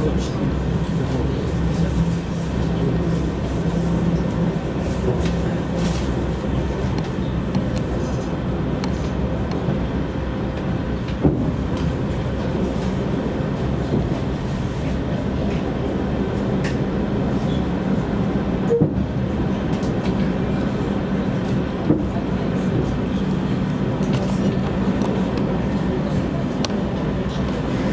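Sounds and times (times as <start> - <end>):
diesel locomotive engine drone: 0.0 - 27.9
train wheels rumbling on rails: 0.0 - 27.9.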